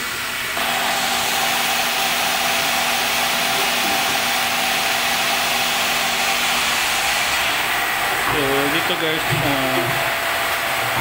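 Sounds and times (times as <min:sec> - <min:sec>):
machinery hissing: 0:00.5 - 0:10.7.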